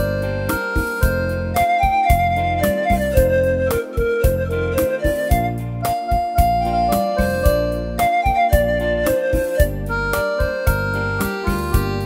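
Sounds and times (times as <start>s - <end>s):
keyboard music with heavy bass: 0.0s - 12.0s.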